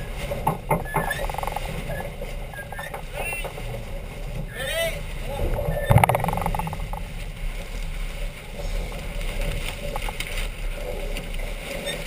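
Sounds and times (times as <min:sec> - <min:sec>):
water rushing along hull: 0:00.0 - 0:12.0.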